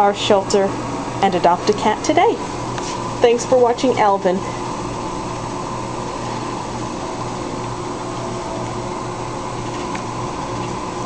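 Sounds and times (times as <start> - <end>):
steady mechanical hum with hiss: 0.0 - 11.0.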